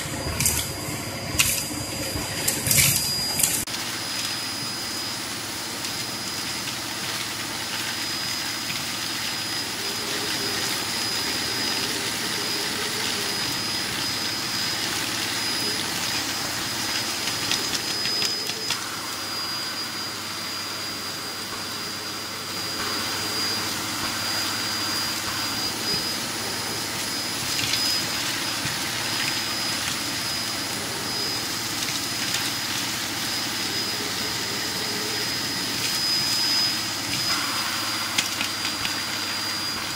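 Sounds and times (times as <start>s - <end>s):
vacuum cleaner running with whine: 0.0s - 39.9s.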